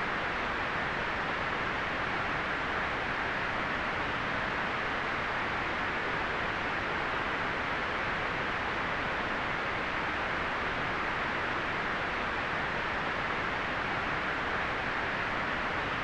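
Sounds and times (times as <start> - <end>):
white noise hiss: 0.0 - 16.0.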